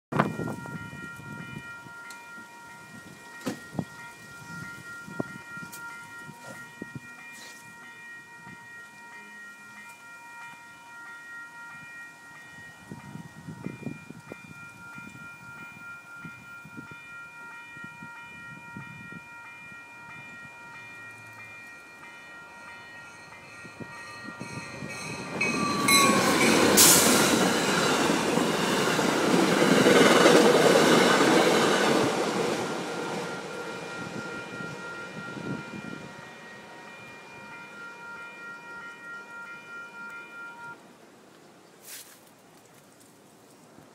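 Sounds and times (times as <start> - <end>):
railroad crossing bell ringing: 0.1 - 40.8
train passing loudly: 0.1 - 40.8.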